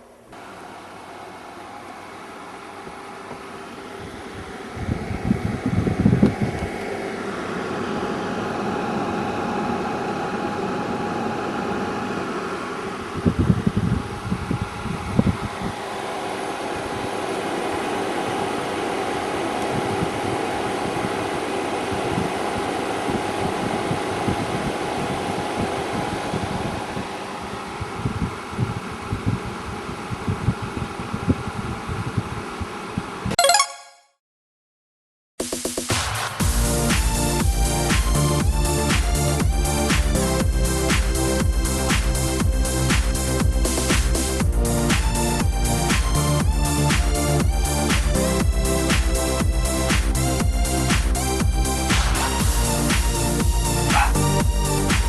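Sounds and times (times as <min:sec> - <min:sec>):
air conditioner fan hum: 0:00.0 - 0:33.3, 0:36.4 - 0:55.0.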